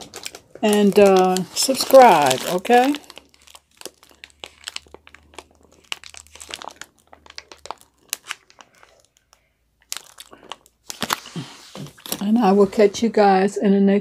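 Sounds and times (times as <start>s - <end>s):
packaging crumpling: 0.0s - 12.4s.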